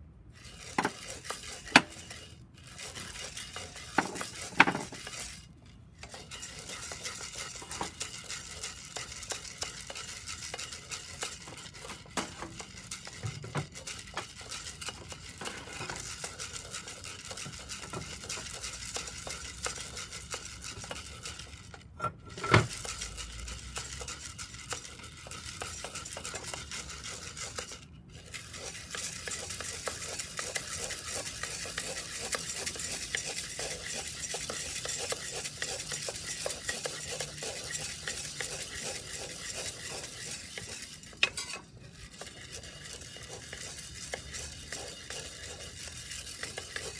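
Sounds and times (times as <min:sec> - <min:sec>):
coffee beans roasting in iron pot: 0:00.0 - 0:46.9.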